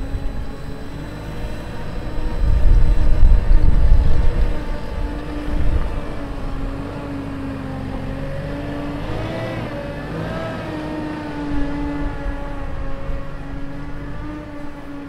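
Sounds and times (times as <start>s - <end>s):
engine hum gliding in pitch: 0.0s - 15.0s
wind buffeting microphone: 0.0s - 15.0s.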